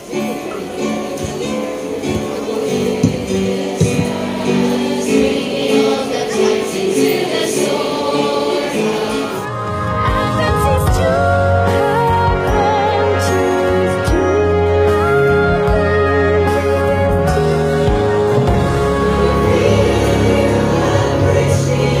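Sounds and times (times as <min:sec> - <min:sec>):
choir singing a hymn: 0:00.0 - 0:22.0
music: 0:00.0 - 0:22.0.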